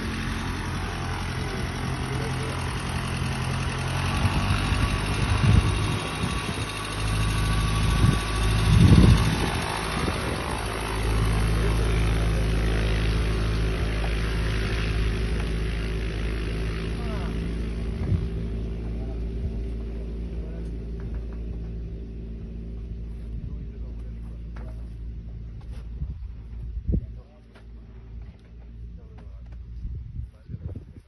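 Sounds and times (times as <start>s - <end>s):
light aircraft engine running: 0.0s - 31.0s.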